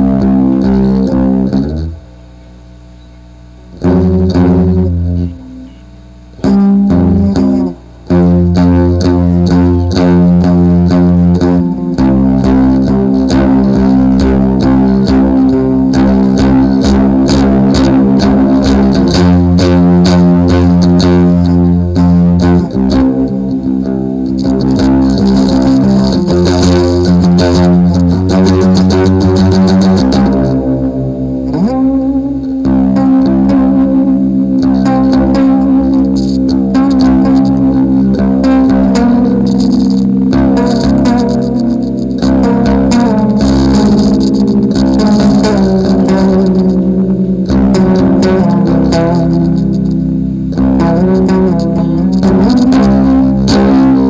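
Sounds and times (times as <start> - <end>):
instrumental guitar and bass music: 0.0 - 54.0.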